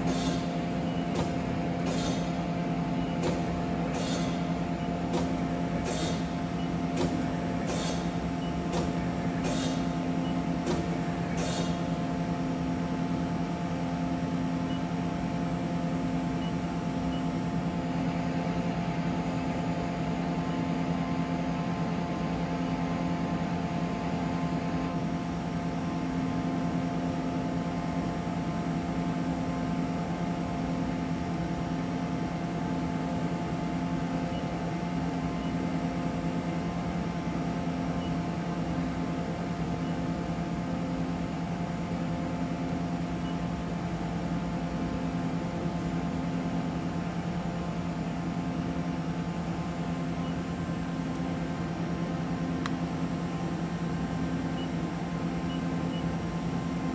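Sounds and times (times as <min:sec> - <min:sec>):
lathe mechanical hum: 0:00.0 - 0:56.9.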